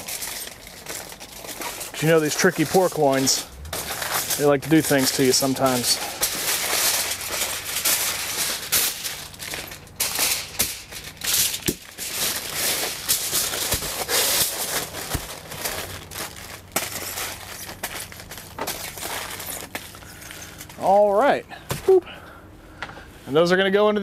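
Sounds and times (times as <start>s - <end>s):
aluminium foil crinkling: 0.0s - 21.0s.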